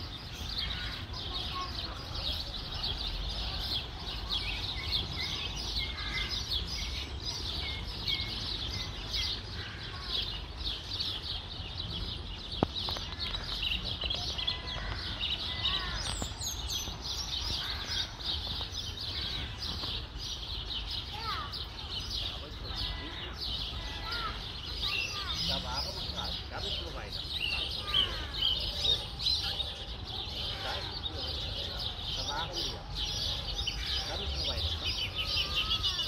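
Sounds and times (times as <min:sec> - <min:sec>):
birds chirping and twittering: 0:00.0 - 0:36.0.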